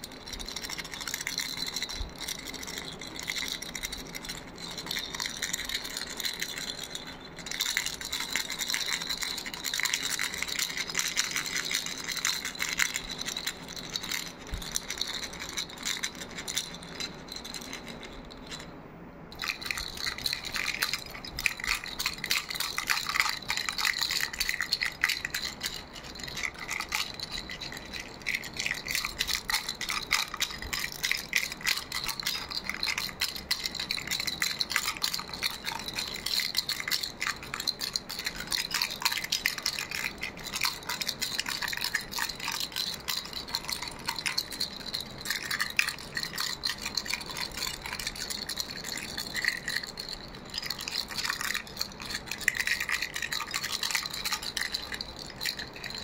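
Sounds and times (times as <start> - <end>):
baby rattle shaken: 0.0 - 56.0.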